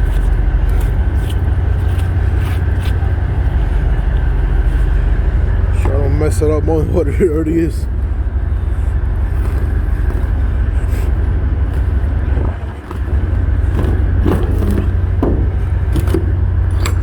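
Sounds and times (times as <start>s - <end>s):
truck idling: 0.0s - 17.0s.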